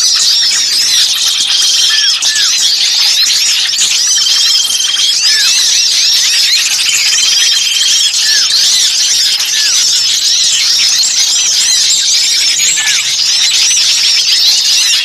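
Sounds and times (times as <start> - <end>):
chorus of small birds chirping: 0.0 - 15.0.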